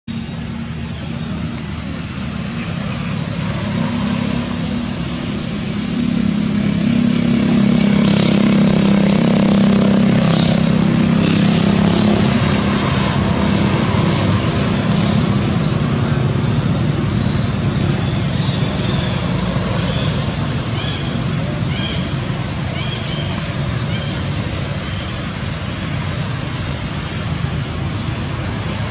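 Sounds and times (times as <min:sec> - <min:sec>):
vehicle engine running: 0:00.1 - 0:28.9.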